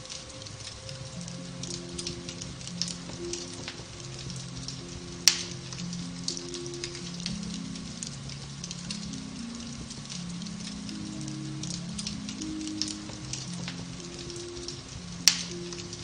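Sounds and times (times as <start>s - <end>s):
soft piano music: 0.0s - 16.0s
wood fire crackling: 0.0s - 16.0s.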